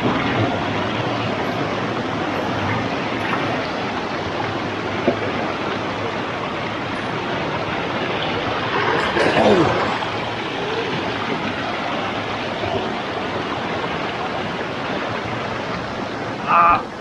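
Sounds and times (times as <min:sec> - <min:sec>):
stream cascading over stones: 0:00.0 - 0:16.6.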